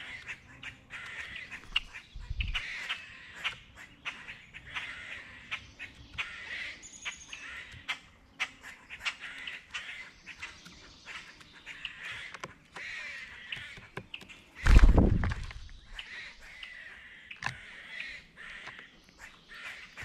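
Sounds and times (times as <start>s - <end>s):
birds harsh crow-like calls: 0.0s - 20.0s.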